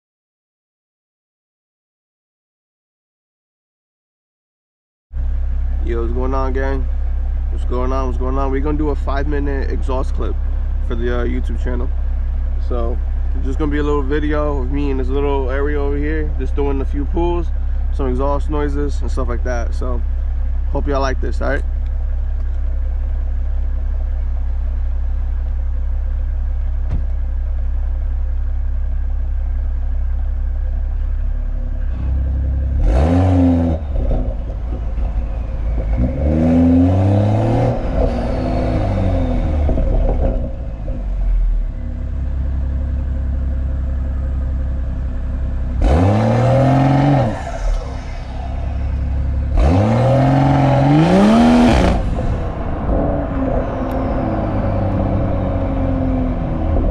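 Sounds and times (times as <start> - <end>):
car exhaust idling and revving: 5.1 - 56.9.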